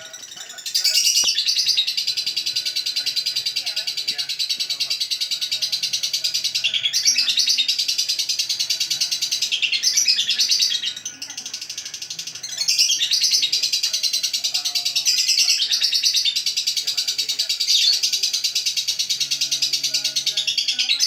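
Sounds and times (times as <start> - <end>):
lovebird chattering trill: 0.0 - 21.0.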